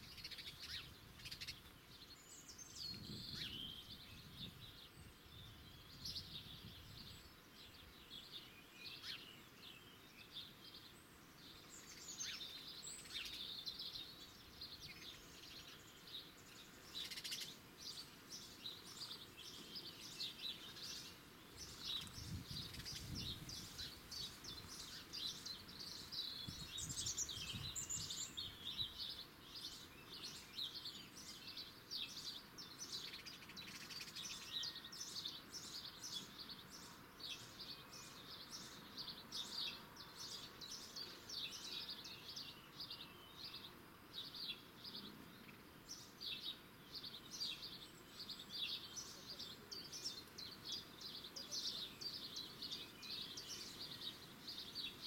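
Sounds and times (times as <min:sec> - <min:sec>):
wild birds singing: 0:00.0 - 0:55.0.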